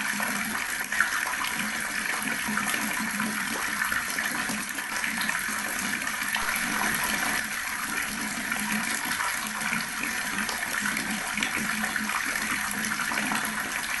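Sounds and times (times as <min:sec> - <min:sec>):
water running from a tap: 0:00.0 - 0:14.0.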